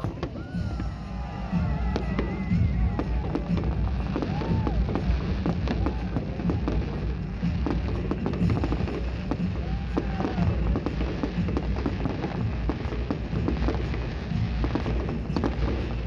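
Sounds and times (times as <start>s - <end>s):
fireworks bangs and crackles: 0.0s - 16.0s
fireworks whistles: 0.0s - 16.0s.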